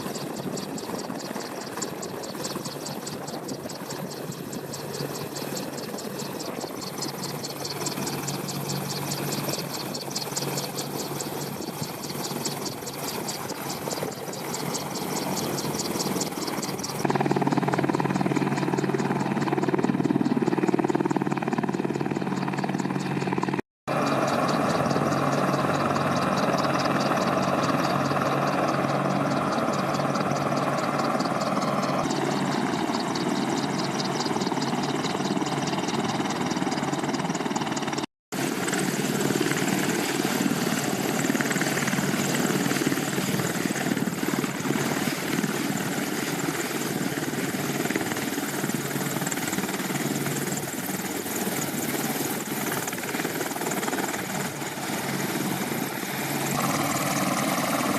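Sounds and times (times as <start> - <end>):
fast rotor pulsing: 0.0 - 57.9
helicopter rotor and turbine: 0.0 - 57.9.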